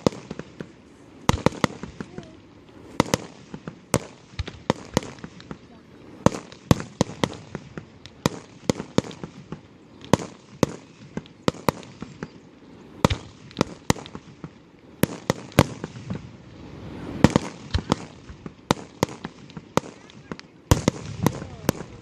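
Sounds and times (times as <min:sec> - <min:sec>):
fireworks bangs: 0:00.0 - 0:22.0
rumbling distant bursts: 0:00.0 - 0:22.0.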